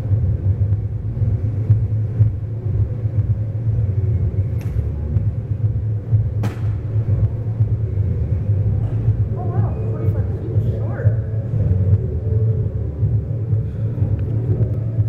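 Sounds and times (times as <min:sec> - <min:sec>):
freight train rumble muffled: 0:00.0 - 0:15.0.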